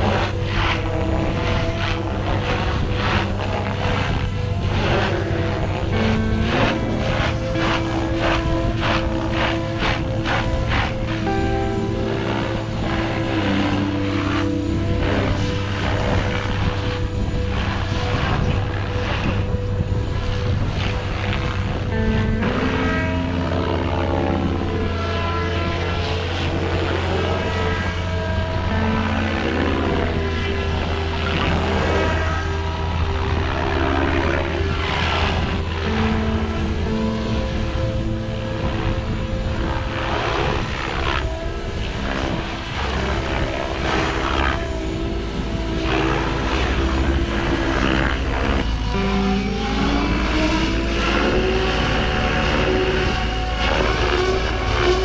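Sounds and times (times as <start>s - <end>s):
rc helicopter rotor and motor whine: 0.0s - 55.0s.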